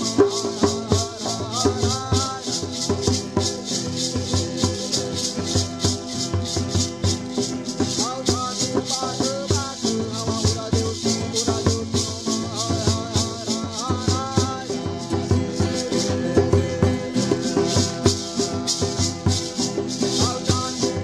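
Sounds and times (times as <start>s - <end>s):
shaker keeping a steady beat: 0.0s - 21.0s.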